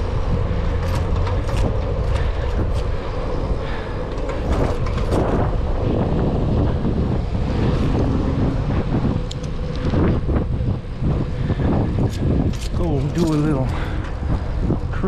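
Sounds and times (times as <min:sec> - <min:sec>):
bicycle tyres rumbling on asphalt: 0:00.0 - 0:15.0
wind buffeting microphone: 0:00.0 - 0:15.0.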